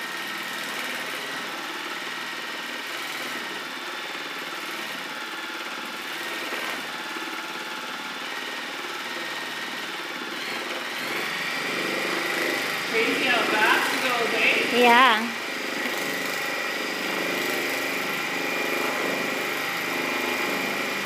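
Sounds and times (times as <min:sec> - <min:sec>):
sewing machine running: 0:00.0 - 0:21.0.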